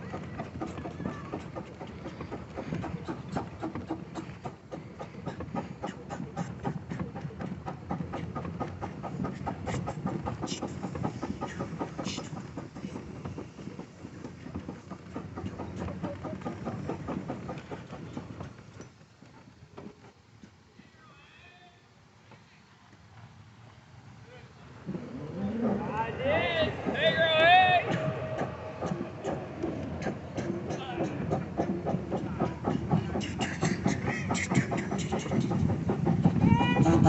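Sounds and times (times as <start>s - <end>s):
old tractor engine running: 0.0s - 20.4s, 25.6s - 37.0s.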